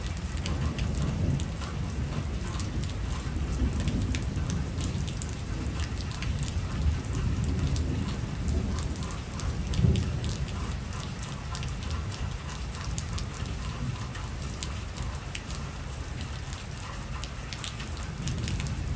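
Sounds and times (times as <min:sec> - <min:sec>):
heavy rain pattering: 0:00.0 - 0:18.9.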